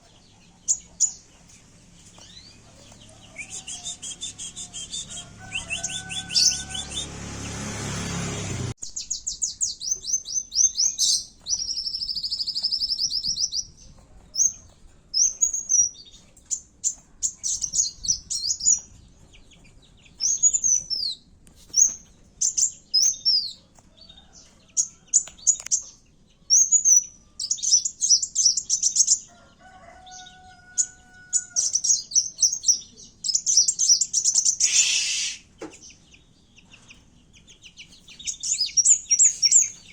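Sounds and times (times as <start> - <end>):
sunbird chirping and trilling: 0.0 - 13.8, 20.0 - 23.6, 24.2 - 39.9.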